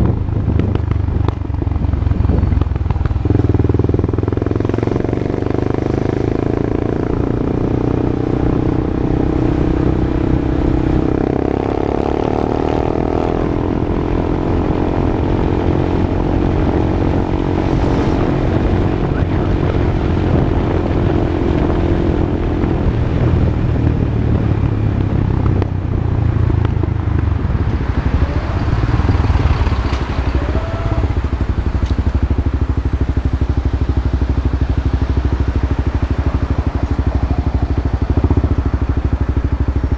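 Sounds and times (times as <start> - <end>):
motorcycle engine exhaust note: 0.0 - 39.9.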